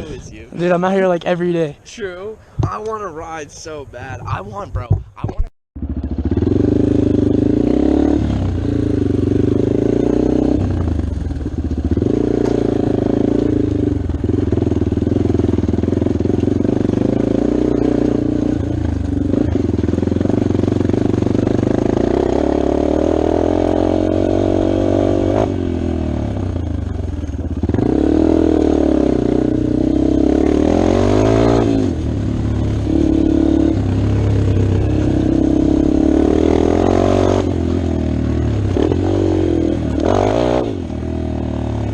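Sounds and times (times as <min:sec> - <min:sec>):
dirt bike engine revving: 0:05.8 - 0:41.9.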